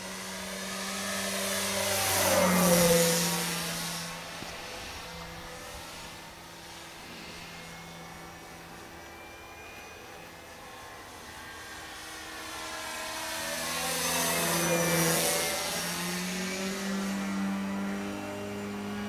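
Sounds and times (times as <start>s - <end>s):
rc airplane electric motor whining: 0.0s - 19.0s.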